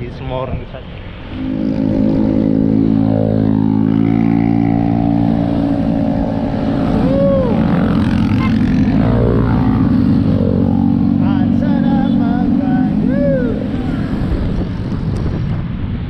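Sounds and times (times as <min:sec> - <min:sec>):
rising and falling tone: 0:01.3 - 0:15.2
vehicle engine running: 0:01.3 - 0:15.4.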